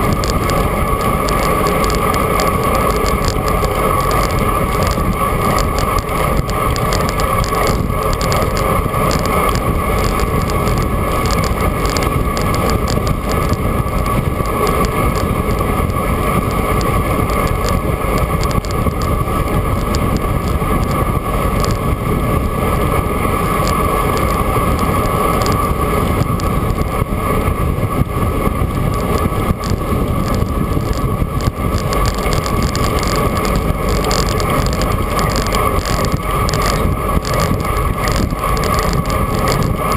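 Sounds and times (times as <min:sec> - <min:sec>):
bicycle road noise: 0:00.0 - 0:39.9
constant hum: 0:00.0 - 0:39.9
wind rush over microphone: 0:00.0 - 0:39.9.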